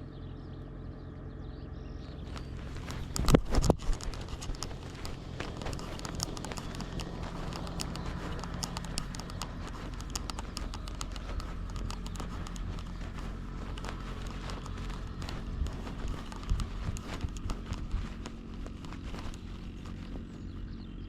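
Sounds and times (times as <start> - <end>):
steady low rumble: 0.0 - 21.0
small clicks and rustles: 2.2 - 21.0.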